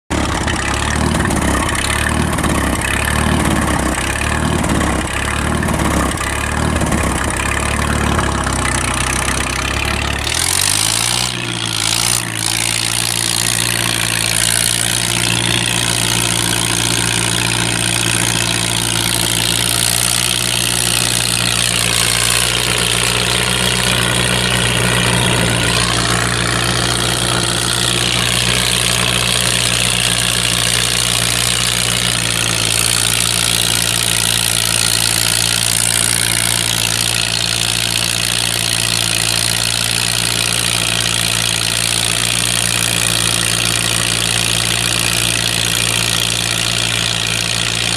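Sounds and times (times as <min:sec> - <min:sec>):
tractor engine running loud: 0:00.0 - 0:47.9.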